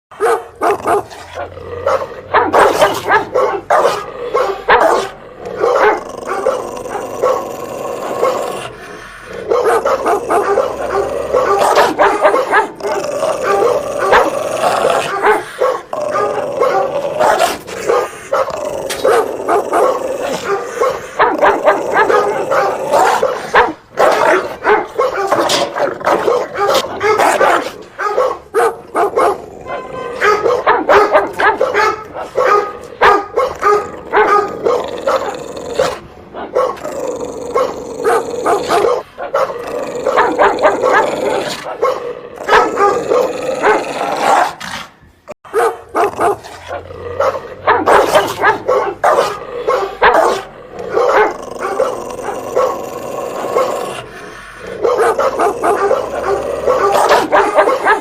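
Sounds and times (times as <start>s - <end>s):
dog barking loudly: 0.1s - 44.7s, 45.4s - 58.0s.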